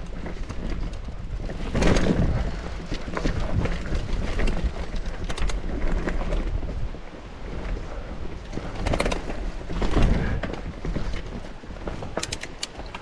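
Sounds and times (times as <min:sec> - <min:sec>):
bike chain and frame rattling: 0:00.0 - 0:13.0
bike tyres rolling on dirt: 0:00.0 - 0:13.0
wind rumble on microphone: 0:00.0 - 0:13.0.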